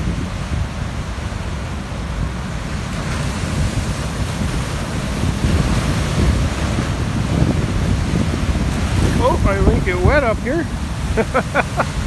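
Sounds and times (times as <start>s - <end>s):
surf crashing over rocks: 0.0s - 12.0s
wind buffeting microphone: 0.0s - 12.0s.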